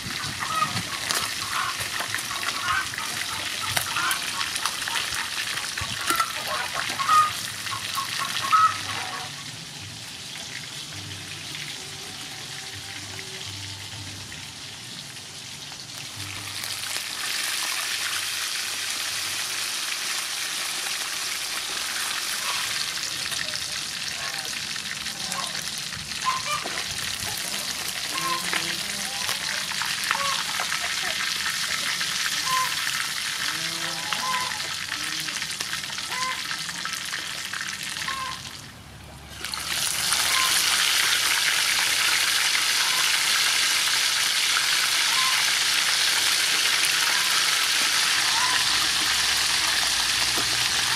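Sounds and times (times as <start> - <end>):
fish frying in oil: 0.0 - 38.6, 39.2 - 50.9.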